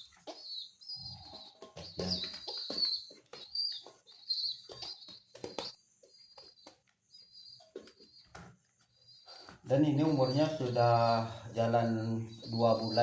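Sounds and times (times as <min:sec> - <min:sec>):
pigeon squab begging peeps: 0:00.0 - 0:13.0.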